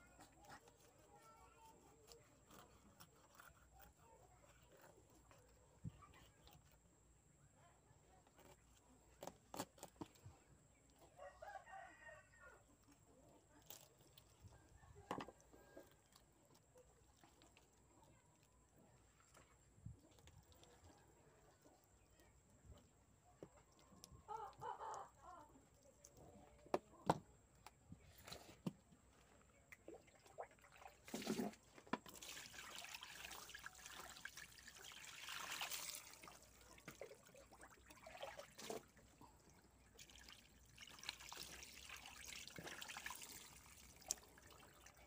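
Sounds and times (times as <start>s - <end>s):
water trickling over fish: 8.4s - 27.6s, 28.2s - 45.0s.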